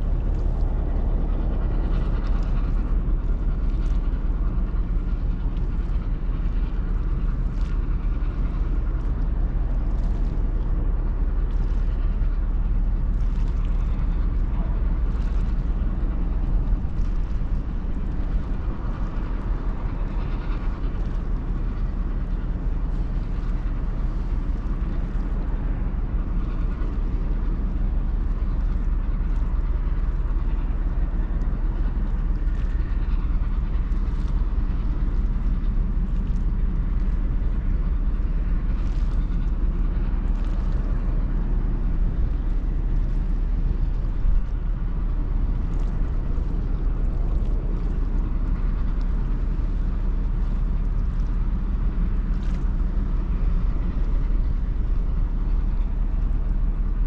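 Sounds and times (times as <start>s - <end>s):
ship engine low rumble: 0.0s - 57.0s.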